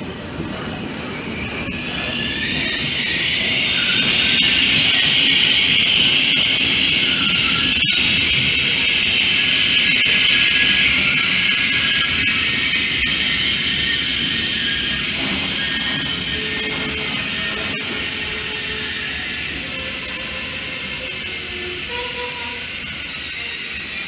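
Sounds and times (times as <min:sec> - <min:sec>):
train wheels rushing on rail: 0:00.0 - 0:24.0.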